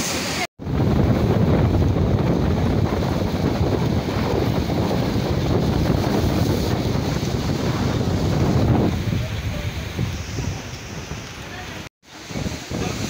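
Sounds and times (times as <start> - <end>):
surf breaking on the shore: 0.0 - 13.0
wind buffeting the microphone: 0.6 - 13.0.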